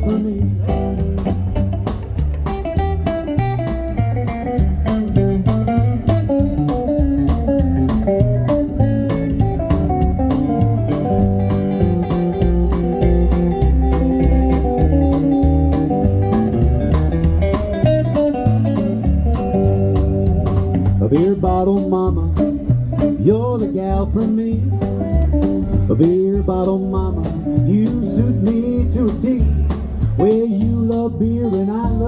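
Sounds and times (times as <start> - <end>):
electric guitar lead: 0.0 - 31.6
steady drum beat: 0.0 - 32.0
walking bass line: 0.0 - 32.0.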